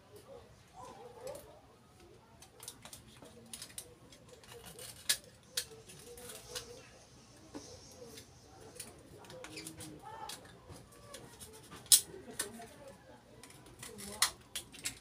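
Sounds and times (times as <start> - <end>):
soft handling rustling: 0.0 - 15.0.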